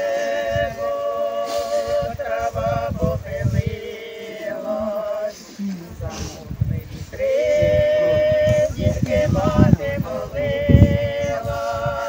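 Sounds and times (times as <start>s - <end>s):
voices chanting long slow notes: 0.0s - 12.0s.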